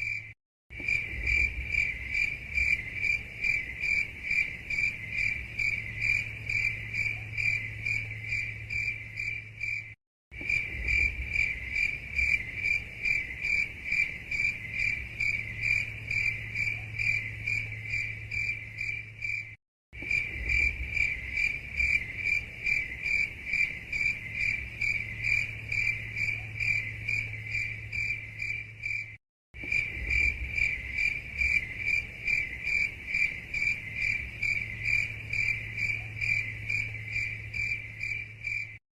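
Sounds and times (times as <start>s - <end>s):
cricket chirping: 0.0s - 38.8s.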